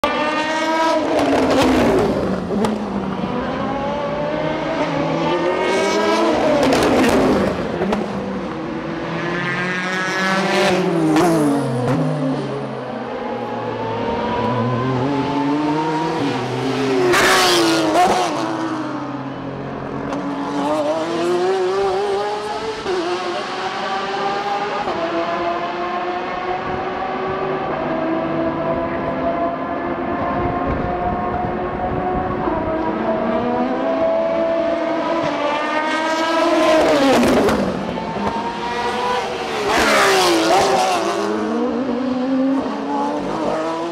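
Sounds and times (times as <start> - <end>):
race cars passing: 0.0 - 43.9.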